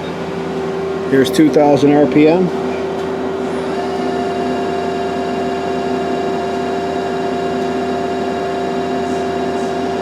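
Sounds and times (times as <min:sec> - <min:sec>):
lathe machine hum with whine: 0:00.0 - 0:10.0.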